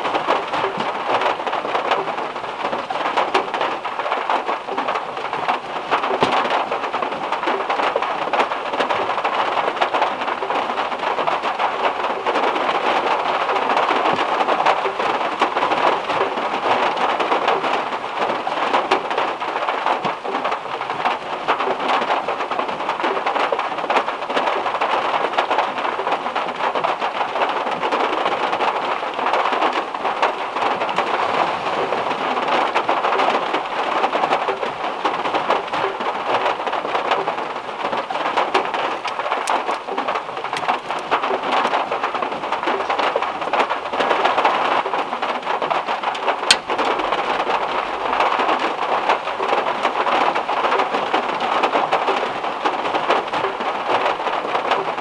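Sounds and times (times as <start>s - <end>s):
heavy rain on car roof: 0.0s - 55.0s.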